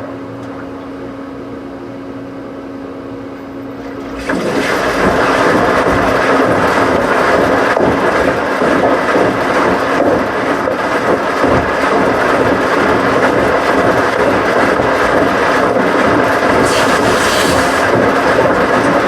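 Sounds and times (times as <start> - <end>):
washing machines rumbling: 0.0 - 19.0.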